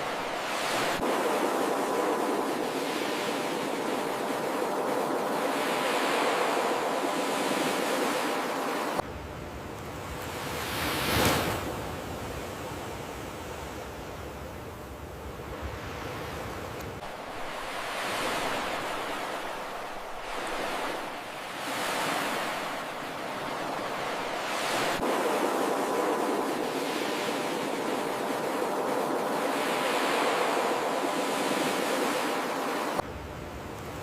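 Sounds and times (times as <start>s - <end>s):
ocean surf washing on shore: 0.0s - 14.3s, 15.2s - 34.0s.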